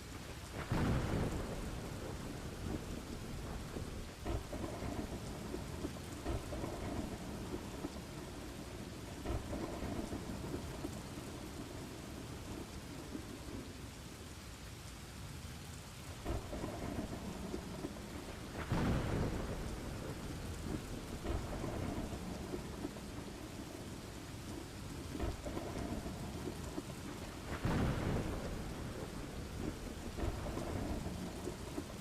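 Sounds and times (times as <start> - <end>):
rolling thunder: 0.0 - 13.8, 16.2 - 32.0
steady rain: 0.0 - 32.0.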